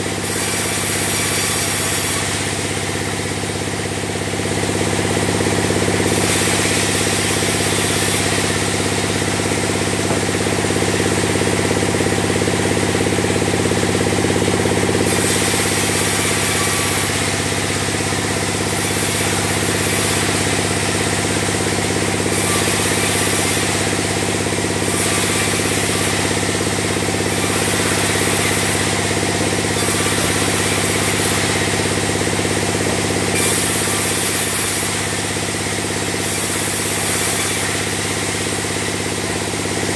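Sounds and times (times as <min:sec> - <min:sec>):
sawmill machine hum: 0:00.0 - 0:39.9
high saw hiss: 0:00.2 - 0:03.6, 0:05.5 - 0:39.8.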